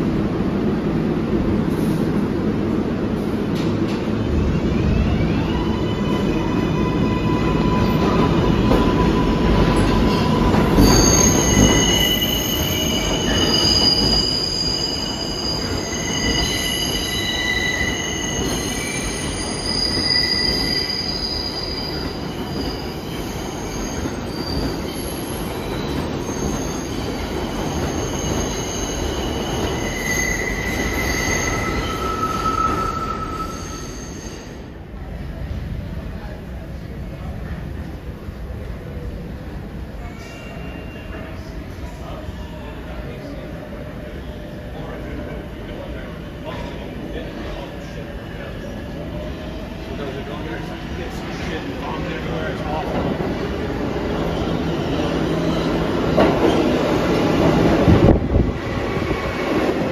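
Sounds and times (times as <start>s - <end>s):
subway train rumble: 0.0s - 59.9s
train wheels squealing on rails: 3.2s - 34.8s, 39.9s - 59.9s.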